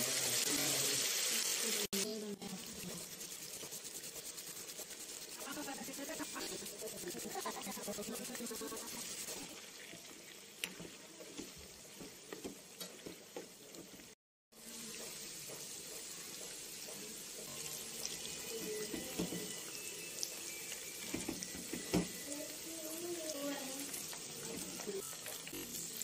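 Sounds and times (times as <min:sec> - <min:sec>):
oil sizzling with pops: 0:00.0 - 0:26.0.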